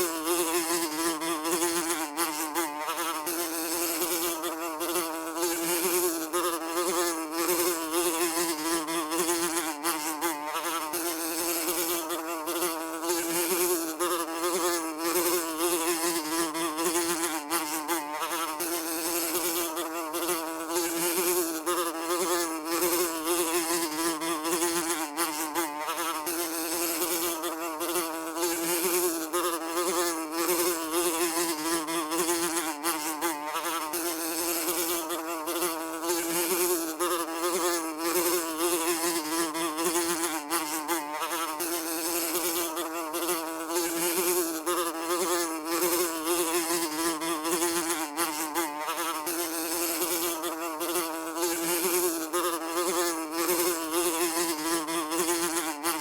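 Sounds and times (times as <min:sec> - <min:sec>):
housefly buzzing: 0:00.0 - 0:56.0.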